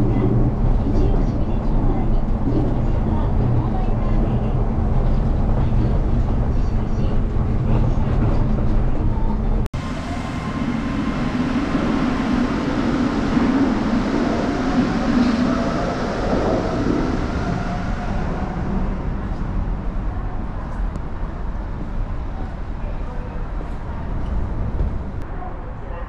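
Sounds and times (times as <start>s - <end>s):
low running rumble inside train: 0.0s - 26.0s.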